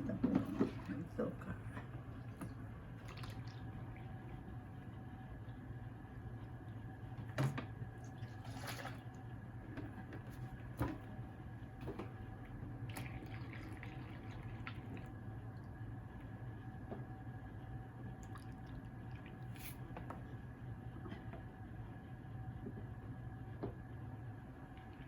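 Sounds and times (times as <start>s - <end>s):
faint liquid sounds: 0.0s - 21.8s, 22.9s - 25.0s
steady low hum: 0.0s - 25.0s.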